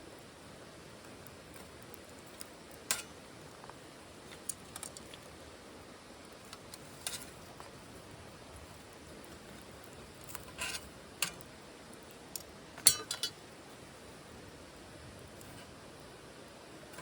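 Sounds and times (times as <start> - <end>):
faint steady hiss: 0.0 - 17.0
wood fire crackling and popping: 0.0 - 17.0.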